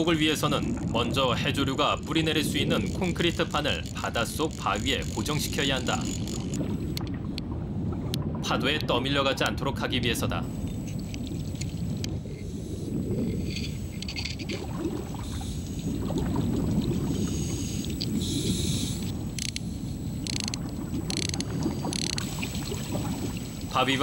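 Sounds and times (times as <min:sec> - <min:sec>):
exhaled bubbles hissing: 0:00.0 - 0:08.9, 0:10.2 - 0:24.0
underwater water rumble: 0:00.0 - 0:24.0.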